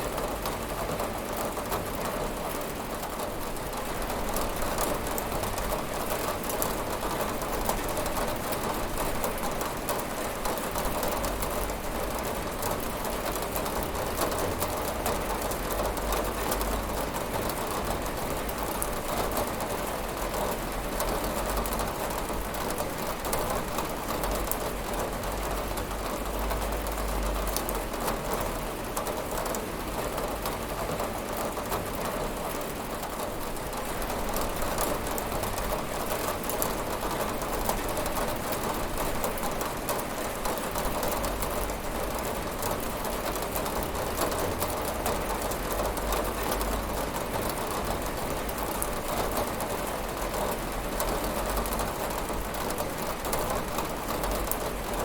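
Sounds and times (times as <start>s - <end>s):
rain pattering on window: 0.0s - 55.0s.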